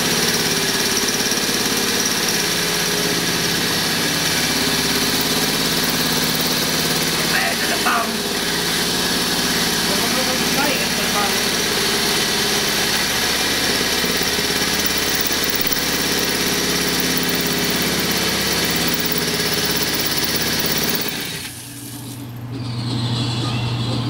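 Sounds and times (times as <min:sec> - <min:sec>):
power saw cutting steel: 0:00.0 - 0:22.2.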